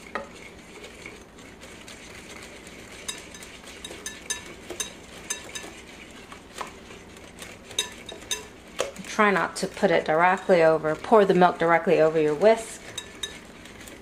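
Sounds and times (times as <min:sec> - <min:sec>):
whisk swishing: 0:00.0 - 0:14.0
whisk clicking against glass bowl: 0:00.1 - 0:14.0.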